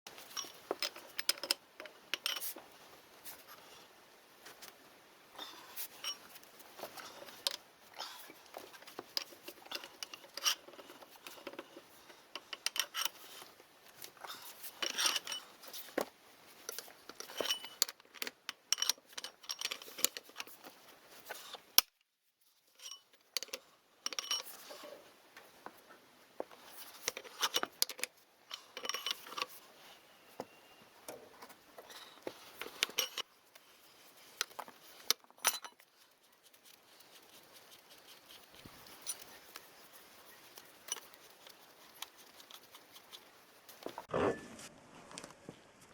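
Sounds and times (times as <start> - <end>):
hand tools and steel parts clinking: 0.1 - 3.8, 5.4 - 25.8, 26.4 - 44.1.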